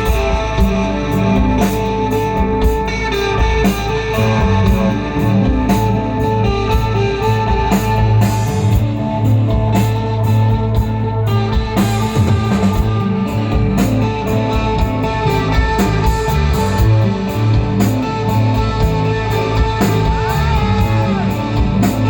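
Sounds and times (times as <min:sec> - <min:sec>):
drum kit: 0:00.0 - 0:22.0
electric guitar sustained notes: 0:00.0 - 0:22.0
heavy bass line: 0:00.0 - 0:22.0.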